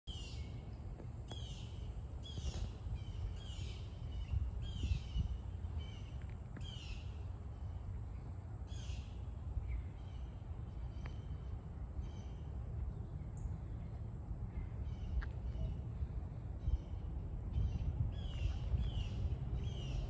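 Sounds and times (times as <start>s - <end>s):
steady low rumble: 0.1s - 20.0s.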